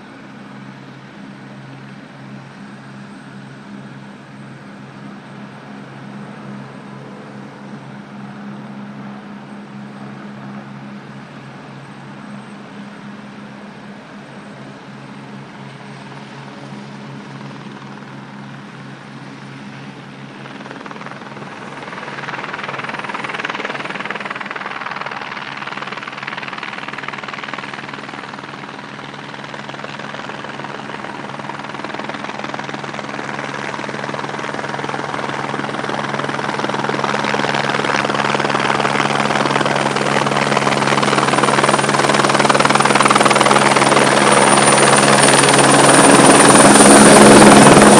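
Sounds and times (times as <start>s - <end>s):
helicopter rotor and turbines throbbing: 0.0s - 47.9s.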